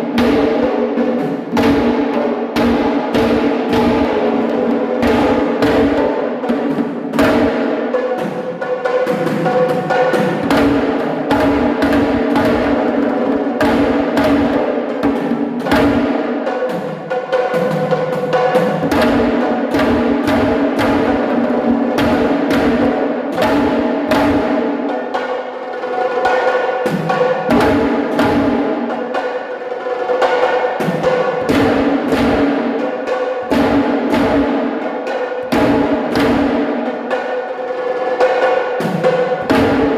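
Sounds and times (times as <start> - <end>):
live drumming: 0.0 - 39.9.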